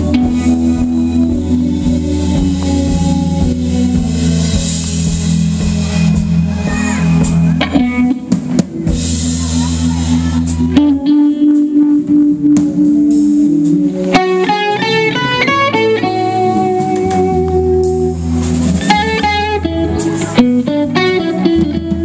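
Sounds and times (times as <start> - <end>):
drums: 0.0 - 22.0
electric guitar lead: 0.0 - 22.0
keyboard: 0.0 - 22.0
steady bass: 0.0 - 22.0.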